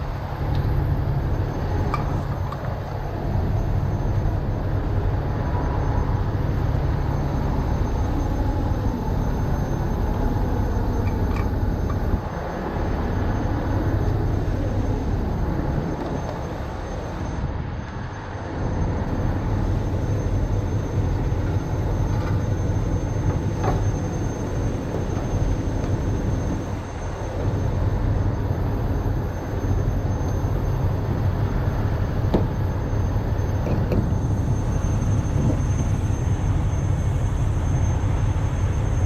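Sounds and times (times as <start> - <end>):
diesel truck engine rumbling: 0.0 - 17.7, 18.5 - 39.0.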